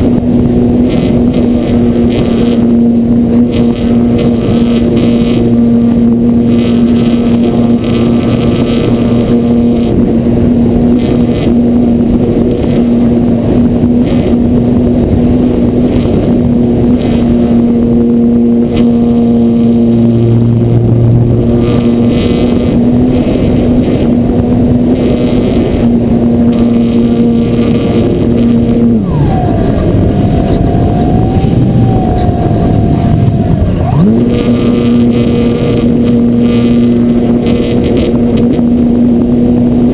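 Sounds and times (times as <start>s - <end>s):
electric motor and propeller: 0.0s - 39.9s
wind rush: 0.0s - 39.9s.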